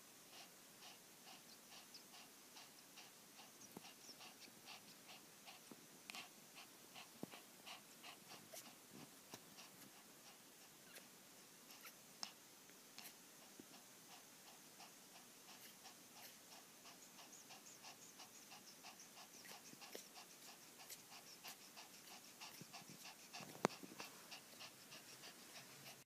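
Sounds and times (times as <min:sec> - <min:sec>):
puppy breathing quickly: 0:00.1 - 0:26.0.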